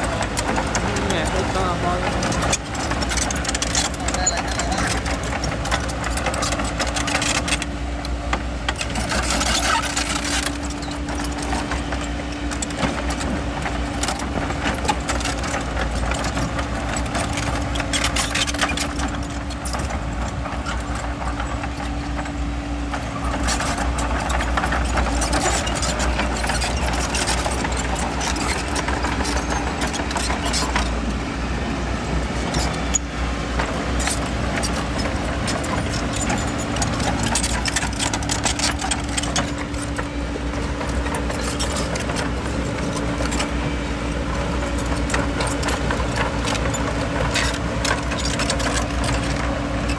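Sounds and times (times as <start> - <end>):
bulldozer engine droning: 0.0 - 49.9.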